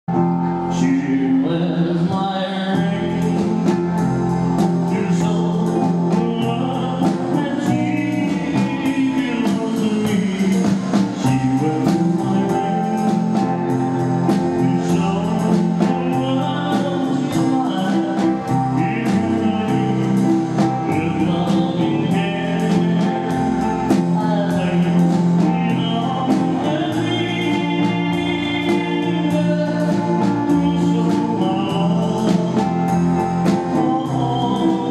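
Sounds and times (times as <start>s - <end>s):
band playing rock ballad: 0.1s - 34.9s
man singing: 0.1s - 34.9s.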